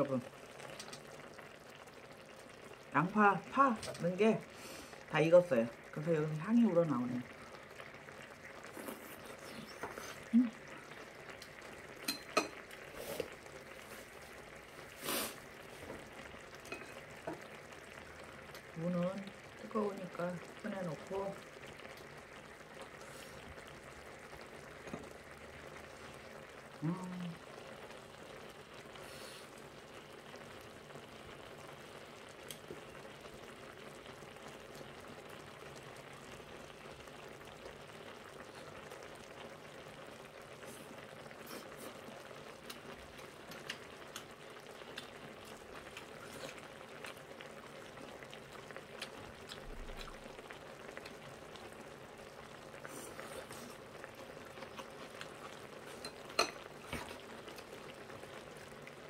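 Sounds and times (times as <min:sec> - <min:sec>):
stew bubbling in a pan: 0:00.0 - 0:59.0.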